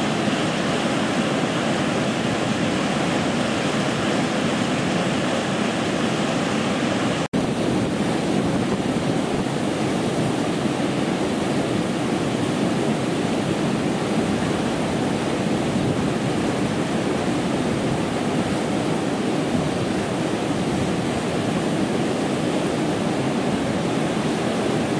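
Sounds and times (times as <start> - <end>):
river rushing over weir: 0.0 - 24.9.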